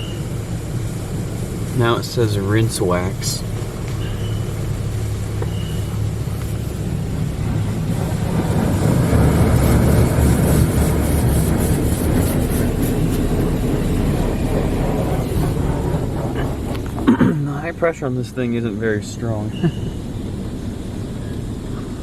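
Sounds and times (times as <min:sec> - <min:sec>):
car wash water spray: 0:00.0 - 0:22.0
pump humming: 0:00.0 - 0:22.0.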